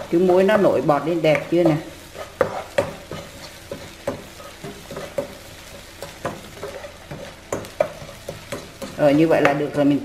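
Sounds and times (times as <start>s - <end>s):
wooden spoon scraping pan: 0.0s - 5.4s, 6.0s - 9.4s
egg yolk sizzling in butter: 0.0s - 9.4s.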